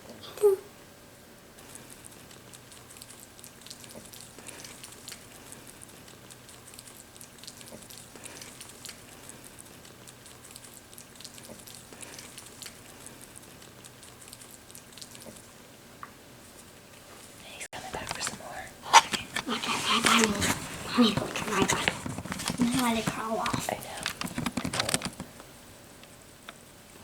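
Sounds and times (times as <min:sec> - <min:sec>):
rabbits nibbling greens: 0:01.6 - 0:15.7, 0:16.4 - 0:26.6.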